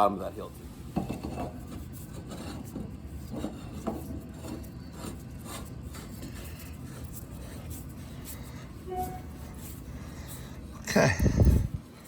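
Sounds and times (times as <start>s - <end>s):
pipe threads scraping: 0.3s - 12.0s.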